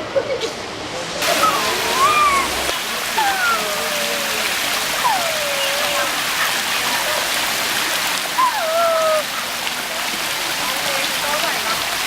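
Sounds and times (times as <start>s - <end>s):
waterfall rushing: 1.2s - 12.0s.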